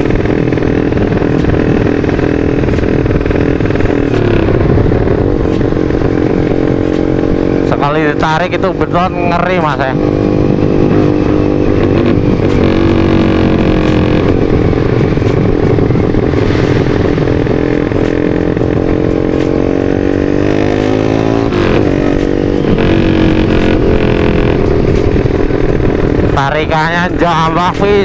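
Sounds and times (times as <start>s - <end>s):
motorcycle engine at full throttle: 0.0s - 28.0s.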